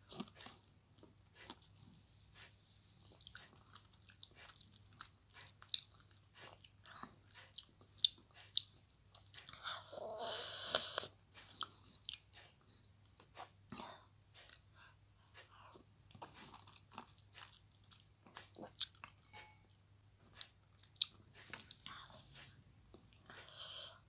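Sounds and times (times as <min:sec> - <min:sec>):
person chewing lemon wedge: 0:00.0 - 0:09.6, 0:10.8 - 0:14.6, 0:15.4 - 0:19.4, 0:20.3 - 0:23.9.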